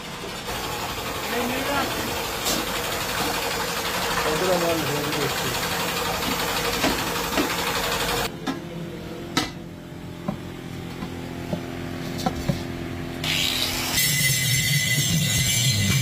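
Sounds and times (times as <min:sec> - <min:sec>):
loud mechanical noise: 0:00.0 - 0:16.0
machine hum: 0:00.0 - 0:16.0.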